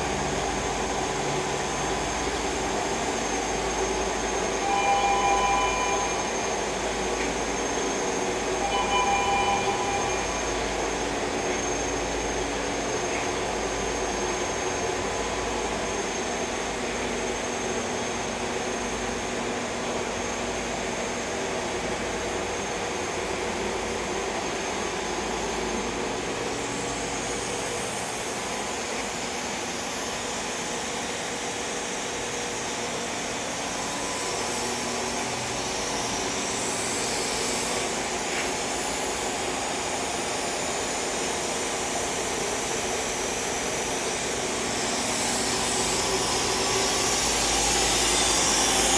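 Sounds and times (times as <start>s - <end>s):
machining center whirring: 0.0s - 48.9s.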